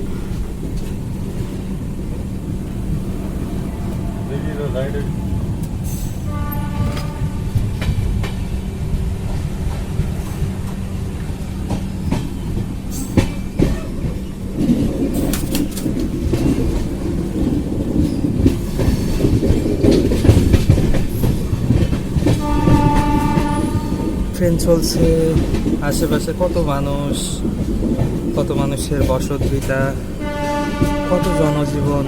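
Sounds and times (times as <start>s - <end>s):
clickety-clack over rail joints: 0.0s - 32.0s
train wheels rumbling: 0.0s - 32.0s.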